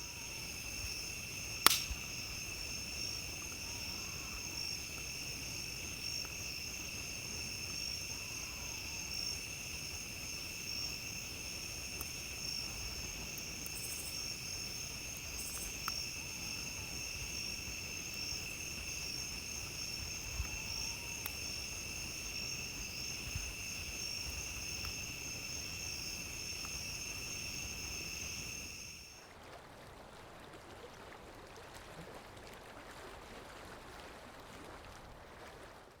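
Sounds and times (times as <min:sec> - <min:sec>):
crickets trilling: 0:00.0 - 0:29.2
steady hiss: 0:00.0 - 0:29.2
faint campfire crackles: 0:00.0 - 0:29.3.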